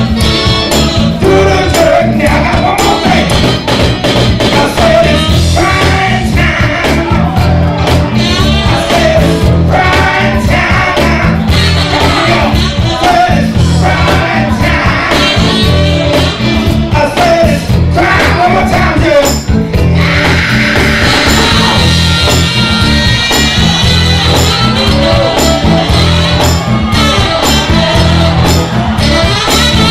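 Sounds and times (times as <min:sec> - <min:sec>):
upbeat soul music with singer: 0:00.0 - 0:29.9.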